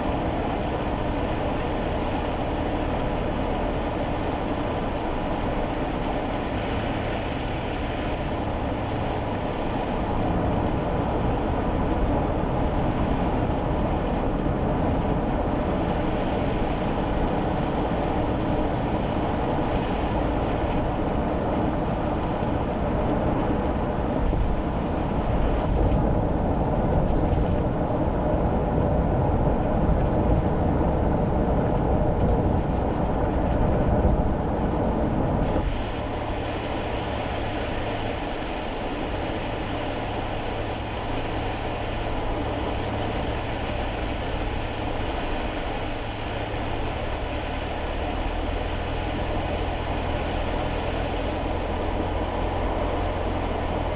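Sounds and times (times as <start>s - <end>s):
car engine drone: 0.0s - 53.9s
tyre noise on wet road: 0.0s - 53.9s.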